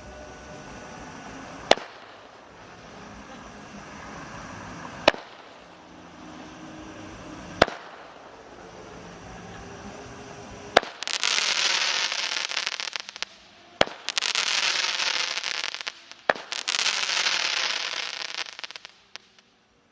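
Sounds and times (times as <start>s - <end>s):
firework reports: 0.0s - 19.8s
firework crackling: 0.0s - 19.9s.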